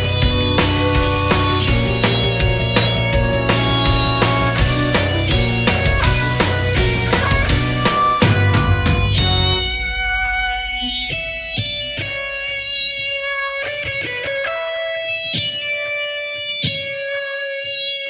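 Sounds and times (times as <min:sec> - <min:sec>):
electric guitar melody: 0:00.0 - 0:18.0.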